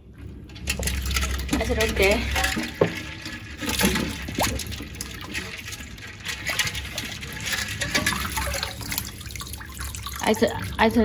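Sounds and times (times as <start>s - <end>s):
liquid splashing in a pot: 0.5s - 11.0s.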